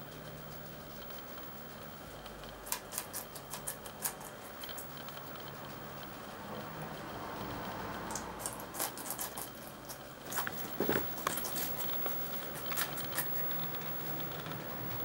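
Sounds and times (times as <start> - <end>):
guinea pigs crunching pepper: 0.0 - 15.0.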